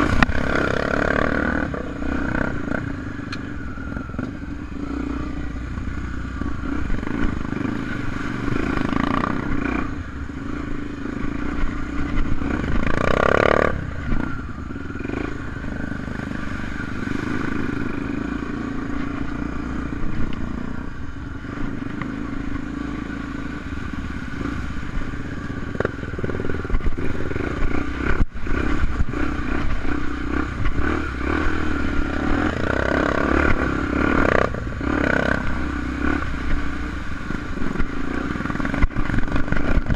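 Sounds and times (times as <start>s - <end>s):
motorcycle engine revving: 0.0s - 39.9s
motorcycle rattling and scraping: 0.0s - 39.9s.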